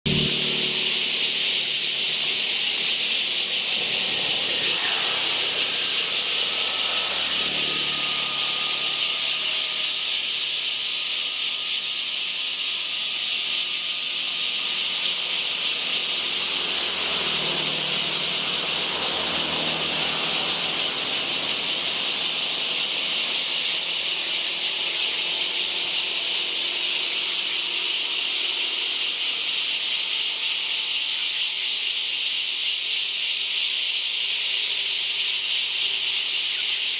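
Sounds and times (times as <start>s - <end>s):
cicadas buzzing: 0.0s - 36.9s.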